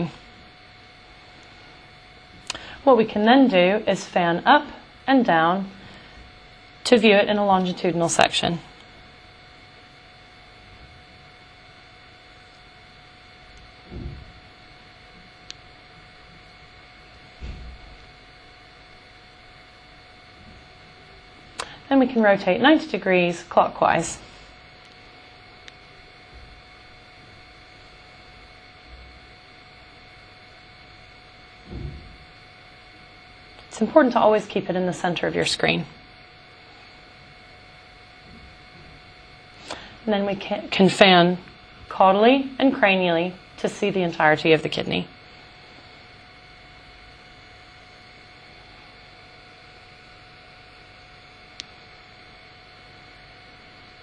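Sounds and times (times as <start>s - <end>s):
faint electrical hum and whine: 0.0s - 54.0s.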